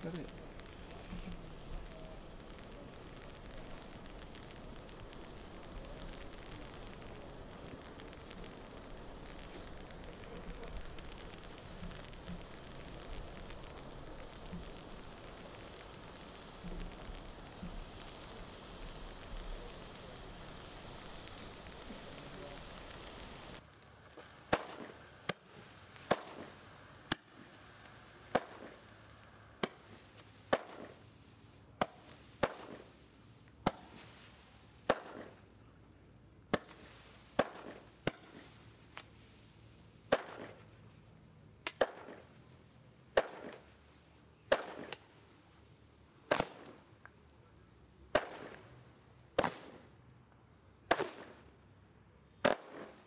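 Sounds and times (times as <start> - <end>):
firework pops: 0.0 - 35.6, 36.5 - 41.0, 41.6 - 50.2, 50.8 - 51.5, 52.4 - 53.0.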